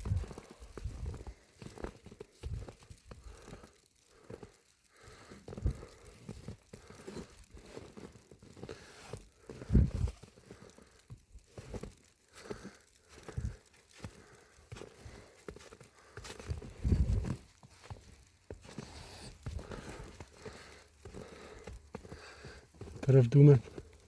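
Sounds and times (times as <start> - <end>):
footsteps crunching in snow: 0.0 - 24.0.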